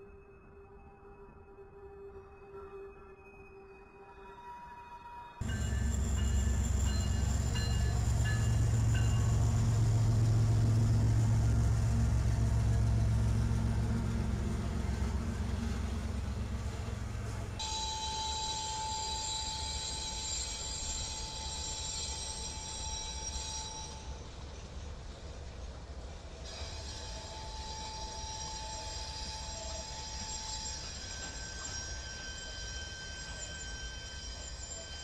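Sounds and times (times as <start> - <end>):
diesel locomotive engine drone: 5.4 - 35.0.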